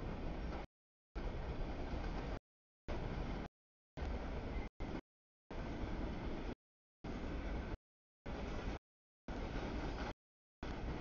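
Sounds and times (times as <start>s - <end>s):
freight train rolling on rails: 0.0s - 11.0s.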